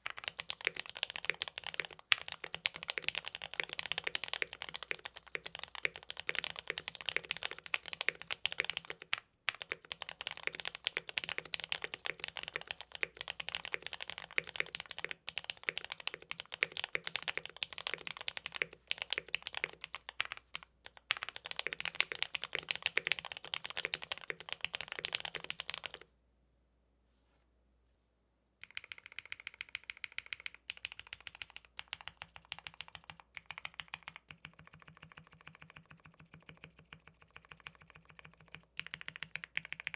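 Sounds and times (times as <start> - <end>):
mechanical keyboard typing: 0.0 - 26.1, 28.6 - 39.9.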